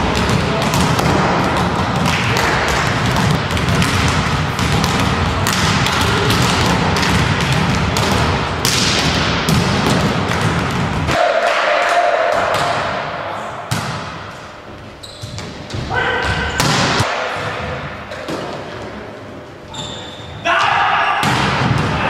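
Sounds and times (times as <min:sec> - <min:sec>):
volleyballs thudding and slapping: 0:00.0 - 0:11.6, 0:12.3 - 0:14.5, 0:15.2 - 0:18.8, 0:21.2 - 0:22.0.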